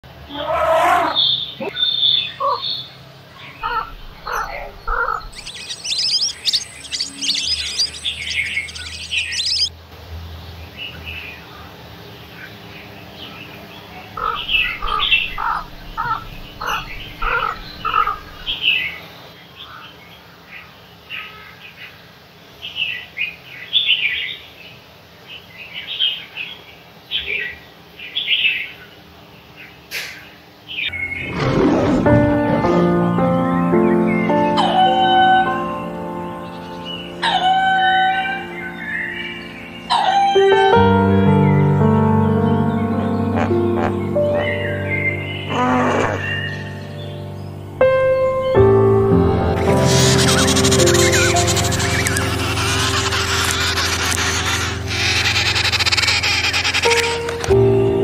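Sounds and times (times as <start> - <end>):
birds chirping: 0.0 - 9.8, 10.6 - 24.8, 33.3 - 58.0.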